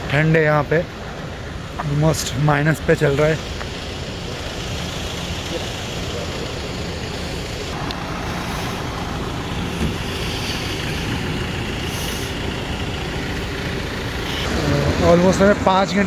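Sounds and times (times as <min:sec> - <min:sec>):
idling motor vehicle: 0:00.0 - 0:16.0.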